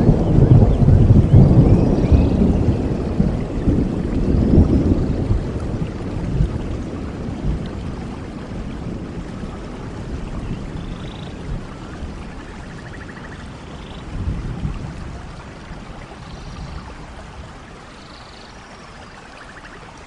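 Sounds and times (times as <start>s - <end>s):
low rumble of thunder: 0.0s - 19.0s
steady rain: 0.0s - 20.0s.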